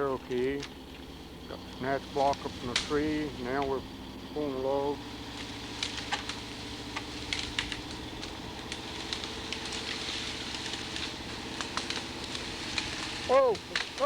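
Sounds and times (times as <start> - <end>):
brush crackling and snapping: 0.0 - 14.0
car engine under load: 0.0 - 14.0.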